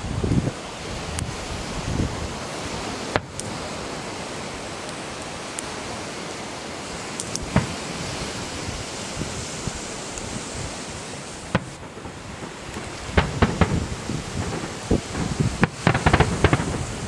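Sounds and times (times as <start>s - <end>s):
firework bangs: 0.0s - 6.2s, 6.8s - 17.0s
firework crackles: 0.0s - 17.0s
wind on microphone: 0.0s - 17.0s.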